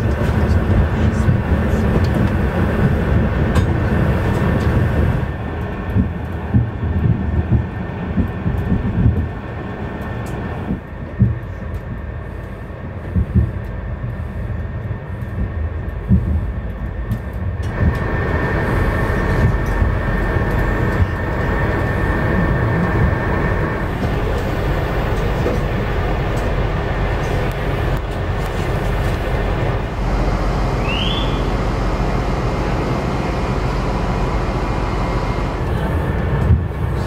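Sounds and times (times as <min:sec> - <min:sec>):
train running rumble: 0:00.0 - 0:37.0.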